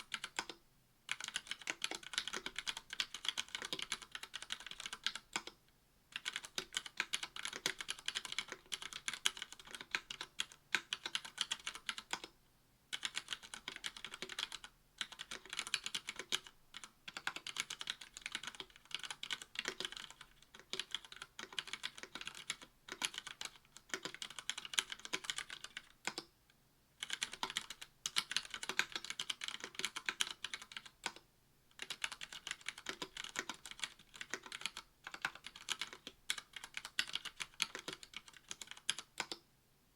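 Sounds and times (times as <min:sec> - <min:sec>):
mechanical keyboard typing: 0:00.0 - 0:12.3, 0:12.9 - 0:26.3, 0:27.0 - 0:39.4.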